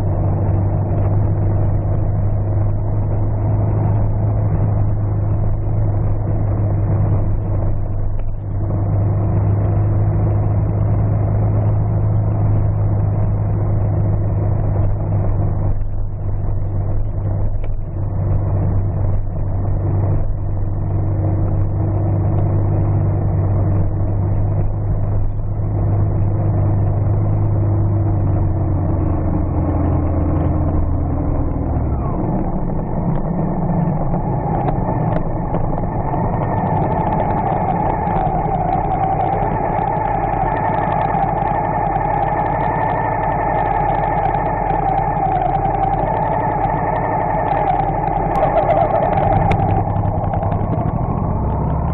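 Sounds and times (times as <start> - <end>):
tyres on gravel road: 0.0 - 51.9
vehicle engine running: 0.0 - 51.9.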